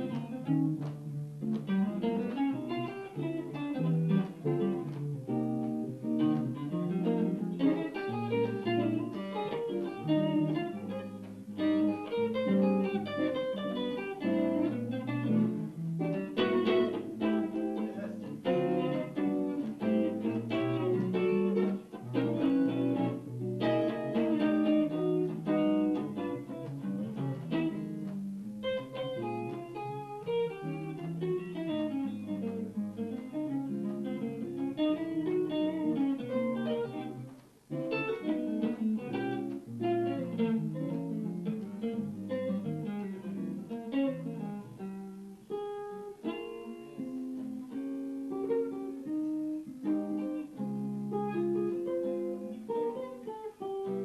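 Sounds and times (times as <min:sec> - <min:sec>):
jazz guitar playing: 0:00.0 - 0:54.0.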